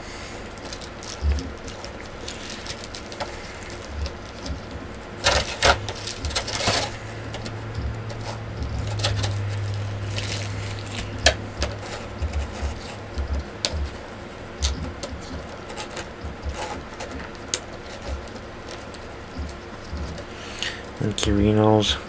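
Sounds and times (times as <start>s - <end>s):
low hum: 0.0s - 22.0s
plastic parts clicking and tapping: 0.5s - 14.0s, 14.6s - 20.3s.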